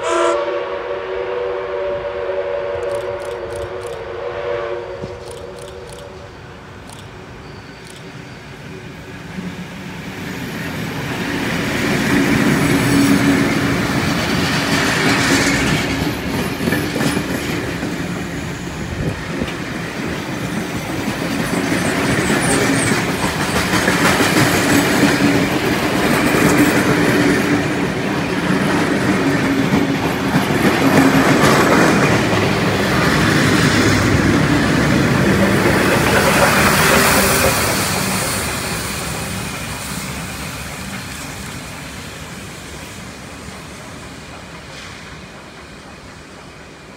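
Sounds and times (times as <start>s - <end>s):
train rumbling past: 0.0s - 46.9s.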